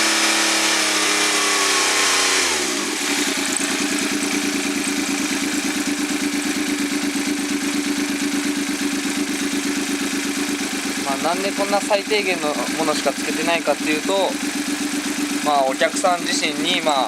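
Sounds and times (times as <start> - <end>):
engine revving and idling: 0.0 - 17.0.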